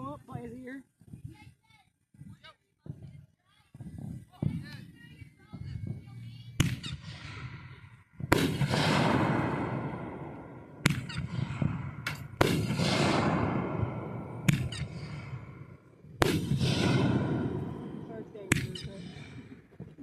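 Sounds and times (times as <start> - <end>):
fireworks exploding: 2.2 - 20.0.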